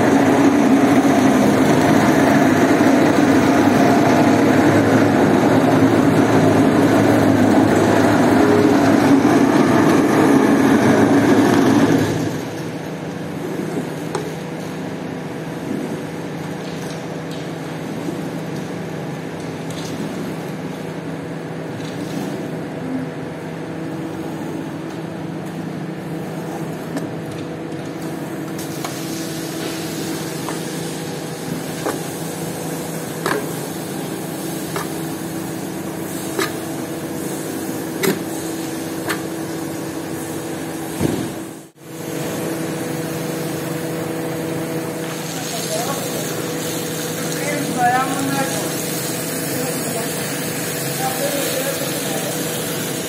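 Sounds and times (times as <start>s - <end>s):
carpet-washing machine humming: 0.0s - 53.0s.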